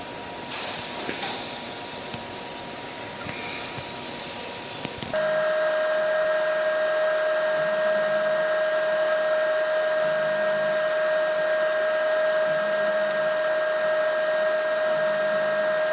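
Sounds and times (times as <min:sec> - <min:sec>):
constant high whine: 0:00.0 - 0:15.9
mechanical hum: 0:00.0 - 0:15.9.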